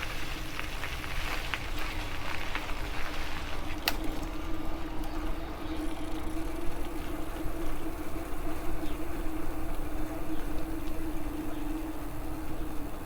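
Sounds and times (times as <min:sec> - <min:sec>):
electric bike motor whining: 0:00.0 - 0:13.0.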